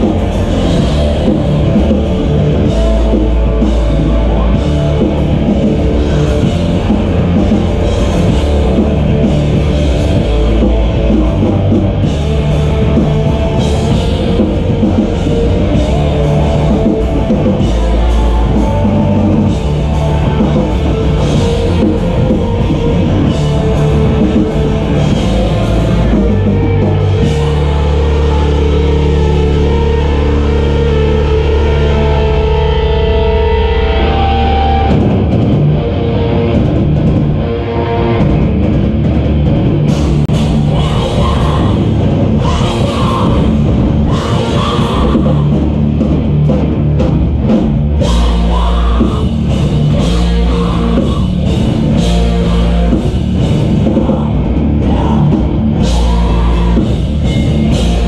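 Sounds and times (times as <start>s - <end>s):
held low guitar and bass chord: 0.0s - 58.0s
live heavy rock band: 0.0s - 58.0s.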